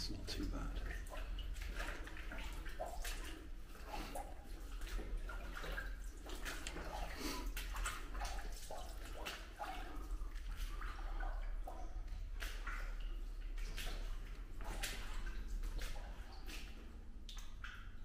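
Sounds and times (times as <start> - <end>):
water dripping and splashing: 0.0 - 18.0.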